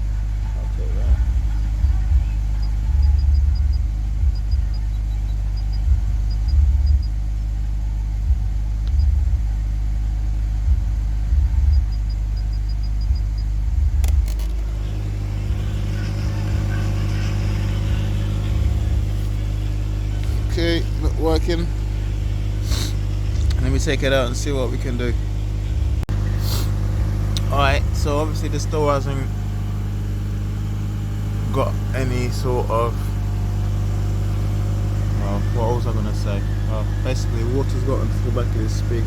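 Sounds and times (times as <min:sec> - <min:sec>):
car stereo bass rumble: 0:00.0 - 0:39.0
low hum: 0:00.0 - 0:39.0.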